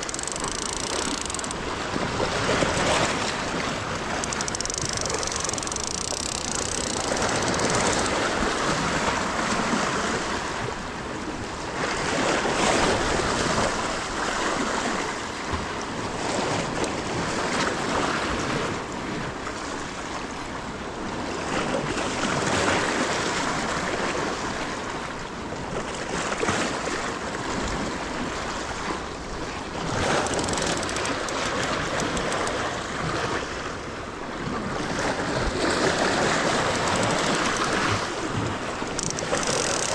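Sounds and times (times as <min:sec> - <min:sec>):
surf washing against rocky shore: 0:00.0 - 0:39.9.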